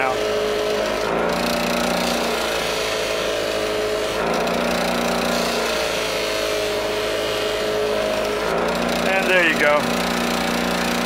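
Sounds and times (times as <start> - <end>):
bench buffer motor whirring: 0.0 - 11.0
metal block rubbing on buffing wheel: 0.0 - 11.0.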